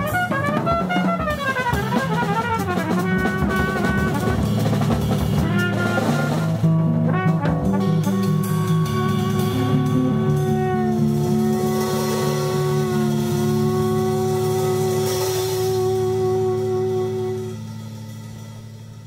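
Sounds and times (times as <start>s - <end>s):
cornet playing: 0.0s - 19.0s
drum kit: 0.0s - 19.0s
electric bass guitar: 0.0s - 19.0s.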